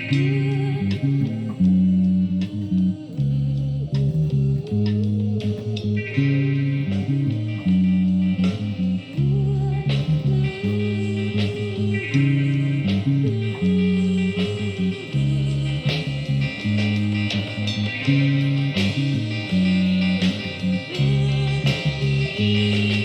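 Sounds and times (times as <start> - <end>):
electric bass guitar: 0.0 - 23.0
rock song with electric guitars: 0.0 - 23.0.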